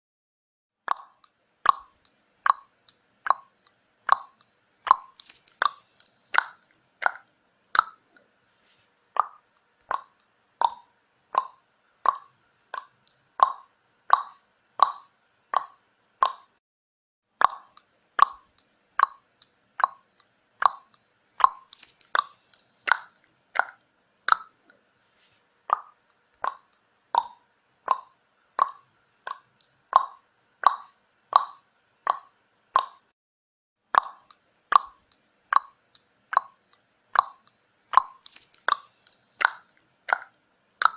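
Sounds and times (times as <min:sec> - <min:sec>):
tongue clicks: 0:00.9 - 0:08.3, 0:09.2 - 0:16.6, 0:17.4 - 0:24.8, 0:25.7 - 0:33.1, 0:33.9 - 0:40.9.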